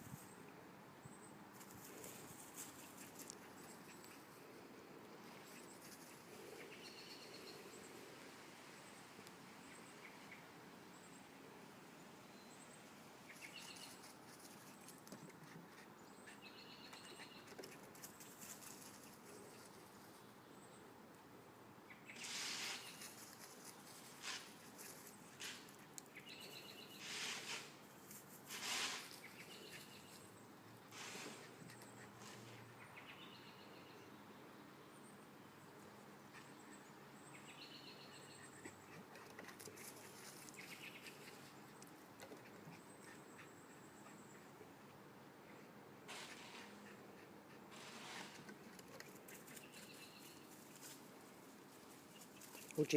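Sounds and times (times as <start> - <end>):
low steady hiss: 0.0 - 52.9.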